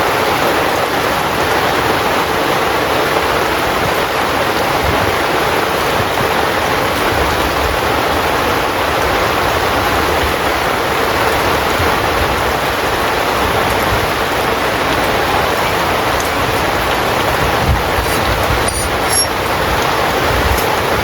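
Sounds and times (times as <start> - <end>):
heavy rain on tent fabric: 0.0 - 21.0.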